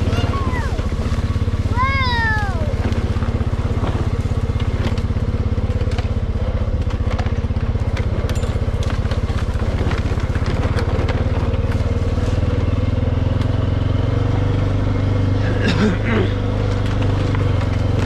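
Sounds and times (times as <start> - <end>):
four-wheeler engine running: 0.0 - 18.0.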